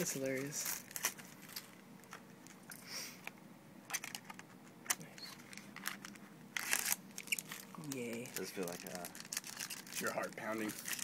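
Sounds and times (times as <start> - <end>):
card and foil crinkling: 0.0 - 2.7, 3.9 - 11.0.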